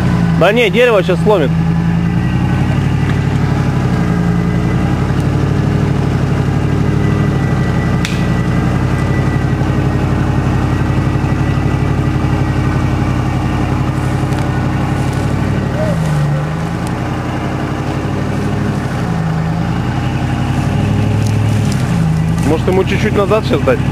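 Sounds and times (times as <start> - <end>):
vehicle engine at low revs: 0.0 - 23.9.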